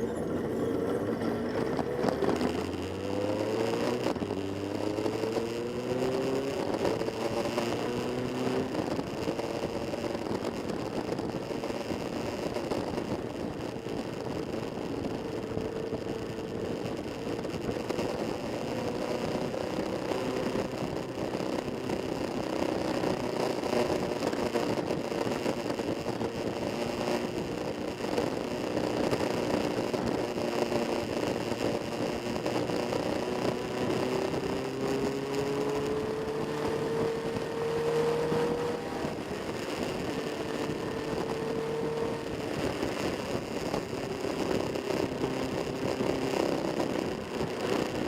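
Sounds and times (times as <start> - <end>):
motorcycle engines running: 0.0 - 48.0.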